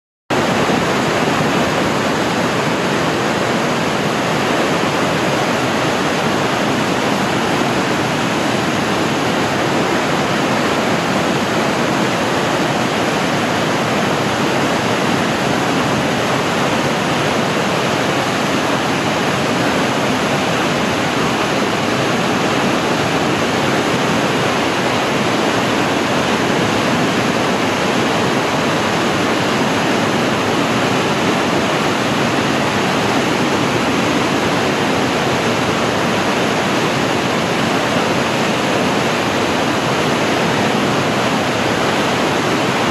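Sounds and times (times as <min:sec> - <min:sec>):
river rapids rushing: 0:00.3 - 0:42.9.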